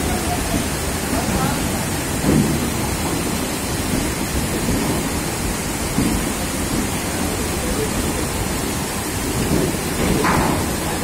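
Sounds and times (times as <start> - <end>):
train wheels rumbling: 0.0 - 11.0
water rushing and splashing: 0.0 - 11.0.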